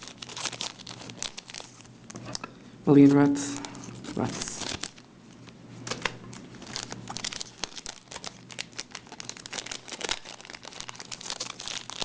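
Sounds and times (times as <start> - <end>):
cards rustling: 0.0 - 2.2, 3.0 - 5.0, 5.8 - 12.0
foil wrappers crinkling: 0.0 - 2.4, 3.4 - 12.0.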